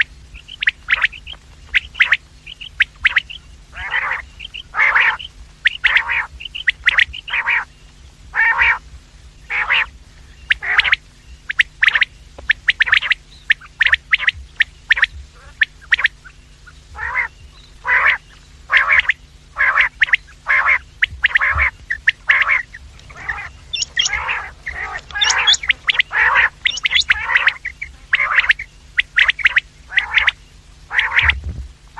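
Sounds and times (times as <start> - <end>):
quail calling: 0.0 - 31.4.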